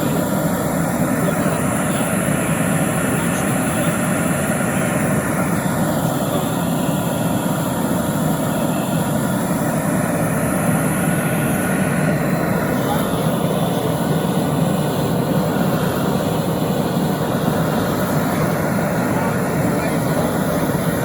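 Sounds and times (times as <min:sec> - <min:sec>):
gas torch roaring: 0:00.0 - 0:21.0.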